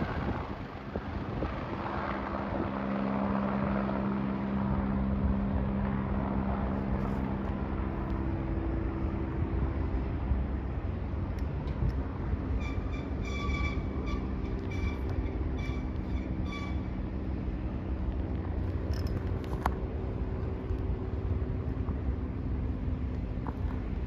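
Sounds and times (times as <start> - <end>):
distant helicopter rumble: 0.0 - 24.0.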